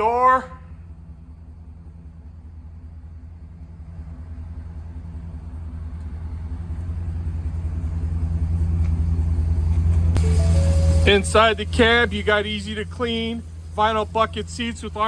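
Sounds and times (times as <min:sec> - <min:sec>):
engine idling low rumble: 0:00.0 - 0:15.0.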